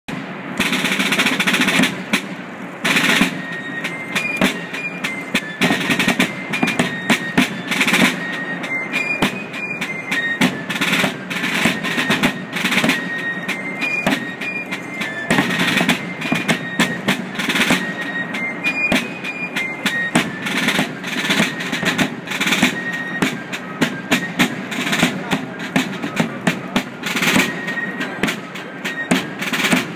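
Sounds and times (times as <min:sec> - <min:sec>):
drum beats and rolls: 0:00.1 - 0:29.9.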